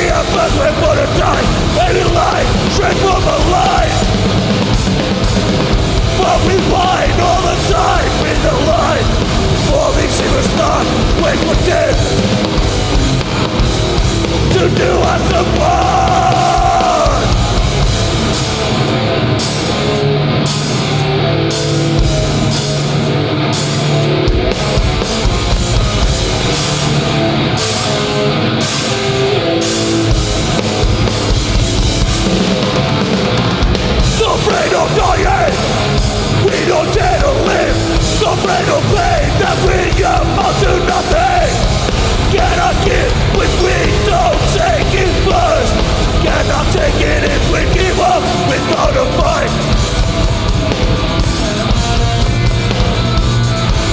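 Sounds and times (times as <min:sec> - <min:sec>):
punk band playing live: 0:00.0 - 0:53.9.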